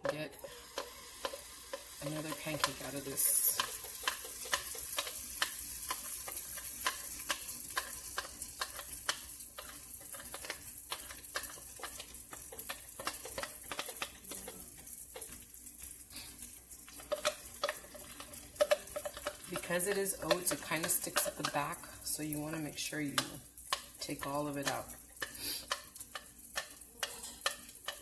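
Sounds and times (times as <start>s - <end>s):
batter sizzling in frying pan: 0.0s - 28.0s
spatula working batter in pan: 0.0s - 28.0s.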